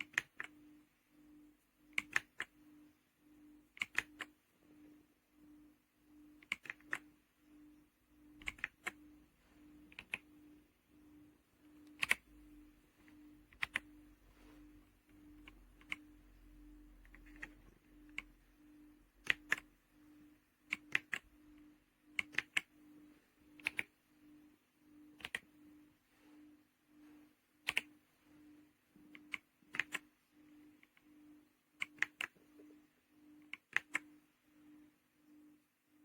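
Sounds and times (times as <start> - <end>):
faint pulsing low hum: 0.0 - 36.0.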